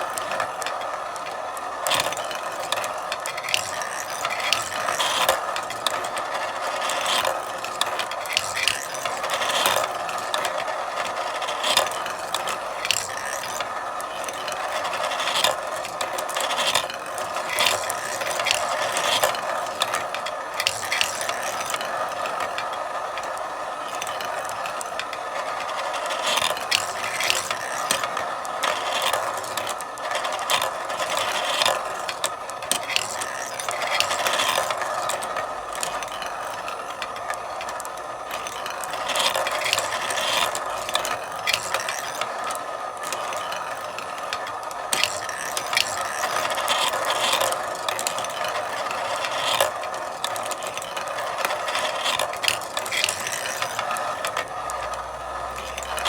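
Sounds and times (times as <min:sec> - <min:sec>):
marbles clicking and clacking: 0:00.0 - 0:56.0
marbles rolling along track: 0:00.0 - 0:56.0.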